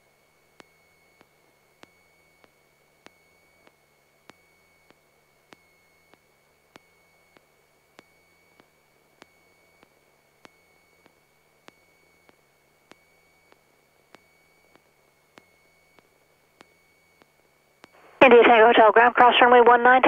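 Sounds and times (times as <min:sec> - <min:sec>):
faint electrical ticks: 0:00.0 - 0:18.2
faint high-pitched whine: 0:00.0 - 0:20.0.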